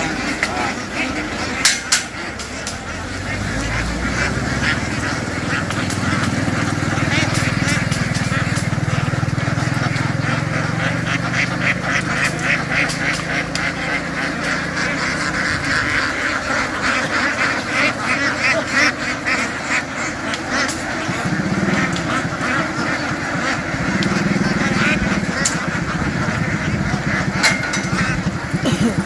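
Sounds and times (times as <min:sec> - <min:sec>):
ducks quacking: 0:00.0 - 0:29.0
low motor hum: 0:00.0 - 0:29.0.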